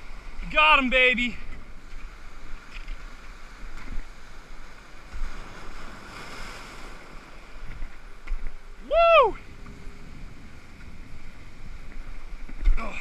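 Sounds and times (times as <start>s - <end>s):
ocean surf washing ashore: 0.0s - 13.0s
wind rumbling on microphone: 1.3s - 13.0s.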